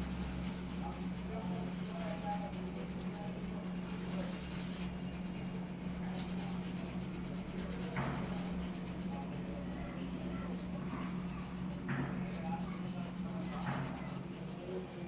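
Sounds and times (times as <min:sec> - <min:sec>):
pencil scratching on paper: 0:00.0 - 0:15.0
steady low hum: 0:00.0 - 0:15.0.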